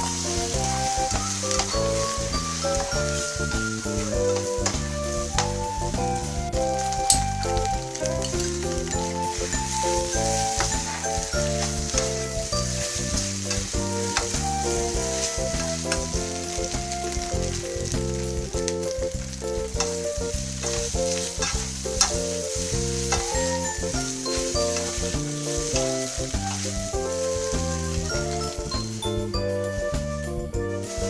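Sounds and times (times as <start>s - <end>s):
background music: 0.0s - 31.0s
food sizzling in a pan: 0.0s - 31.0s.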